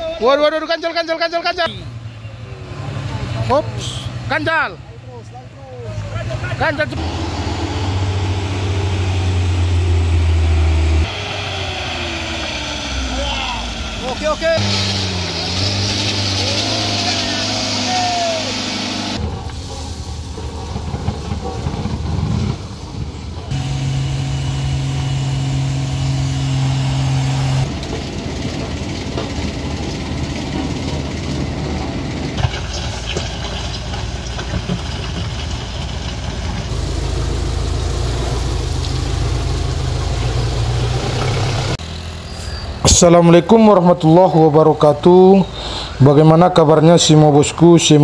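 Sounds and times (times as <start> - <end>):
truck engines running: 0.0 - 48.0.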